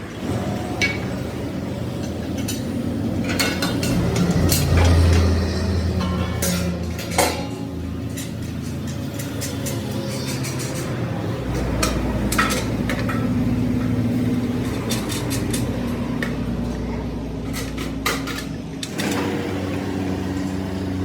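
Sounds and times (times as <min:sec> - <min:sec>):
metal clanks and clinks: 0:00.0 - 0:19.3
machine humming: 0:00.0 - 0:21.0.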